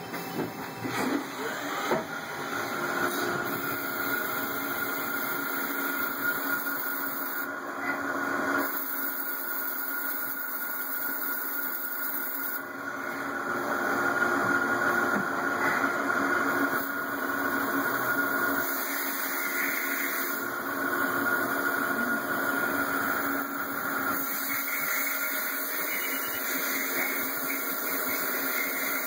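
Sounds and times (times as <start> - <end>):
lathe running with a whine: 0.0 - 29.0.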